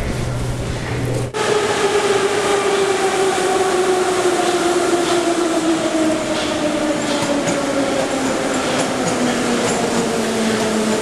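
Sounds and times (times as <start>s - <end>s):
rushing rumble of wheels: 0.0s - 11.0s.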